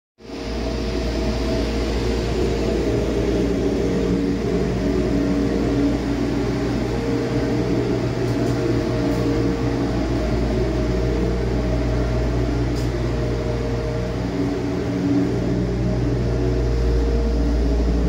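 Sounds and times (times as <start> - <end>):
diesel engine running steadily: 0.2 - 18.0.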